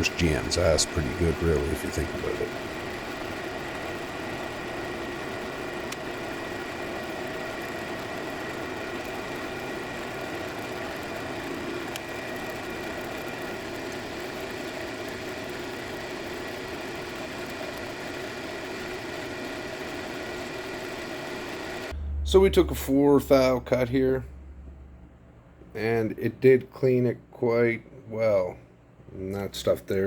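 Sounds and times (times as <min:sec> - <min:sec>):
surfacing machine humming: 0:00.0 - 0:30.0.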